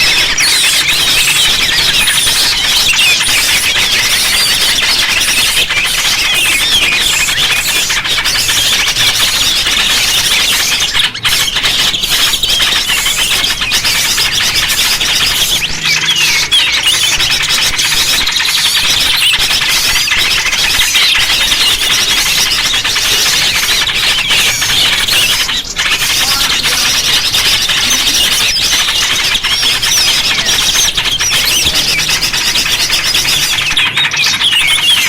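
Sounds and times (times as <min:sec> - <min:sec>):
chorus of small birds chirping: 0:00.0 - 0:35.0.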